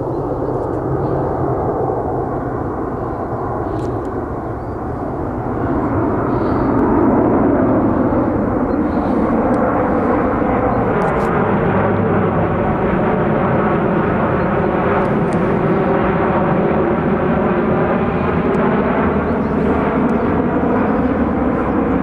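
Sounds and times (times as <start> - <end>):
airliner jet engine rumble: 0.0 - 22.0.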